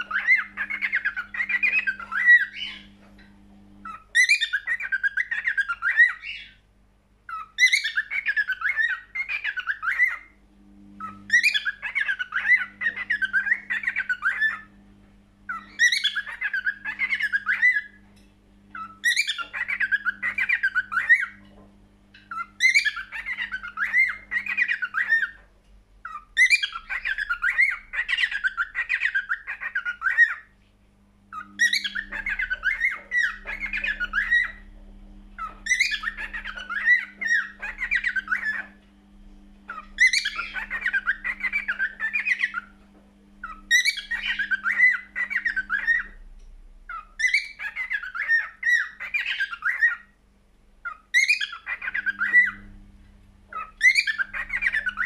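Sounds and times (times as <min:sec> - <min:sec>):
cockatiel warbling song: 0:00.0 - 0:06.6, 0:07.3 - 0:10.4, 0:11.0 - 0:14.8, 0:15.5 - 0:25.4, 0:26.0 - 0:30.6, 0:31.3 - 0:38.9, 0:39.5 - 0:46.2, 0:46.8 - 0:50.2, 0:50.8 - 0:55.0.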